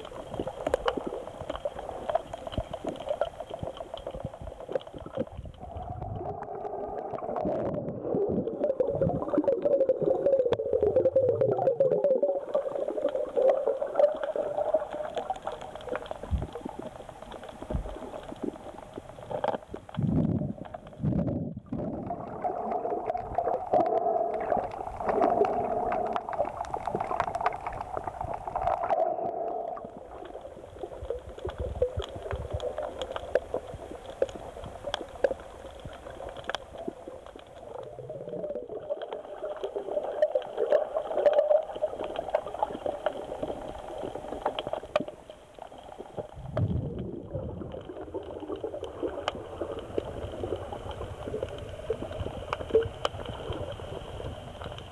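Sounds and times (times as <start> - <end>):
sharp underwater clicks: 0.0 - 8.1, 9.0 - 47.1
underwater rumble and gurgle: 0.0 - 54.9.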